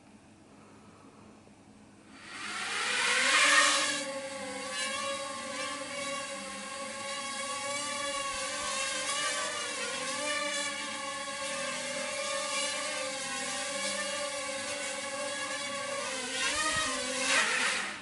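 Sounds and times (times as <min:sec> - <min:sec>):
quadcopter motors whining: 0:02.1 - 0:18.0.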